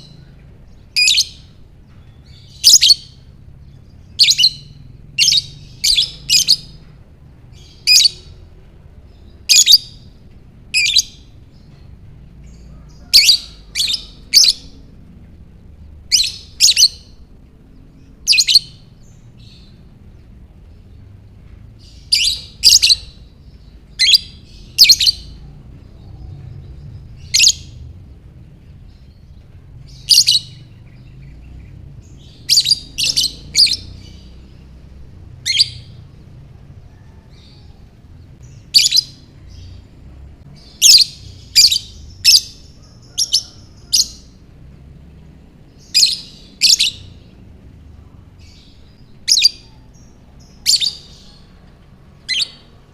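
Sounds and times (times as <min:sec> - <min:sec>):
lovebird chirping: 0:00.0 - 0:15.1, 0:15.9 - 0:21.0, 0:21.8 - 0:27.9, 0:28.7 - 0:44.4, 0:45.2 - 0:52.9.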